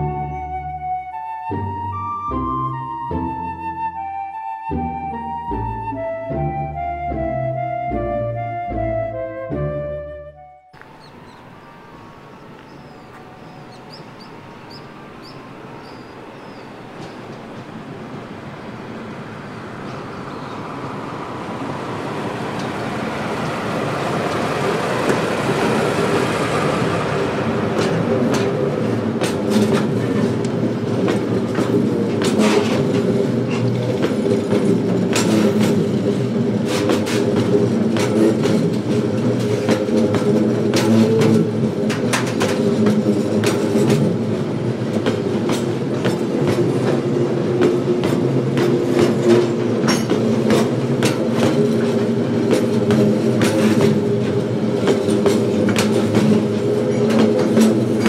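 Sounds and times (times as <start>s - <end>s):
diesel locomotive engine: 0.0s - 58.0s
train wheels clicking over rail joints: 10.8s - 58.0s
wagons rolling rumble: 10.8s - 58.0s.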